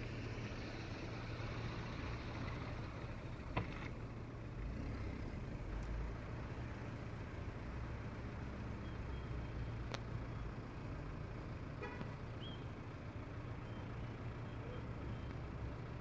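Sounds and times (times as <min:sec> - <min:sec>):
urban traffic with engine rumble: 0:00.0 - 0:16.0.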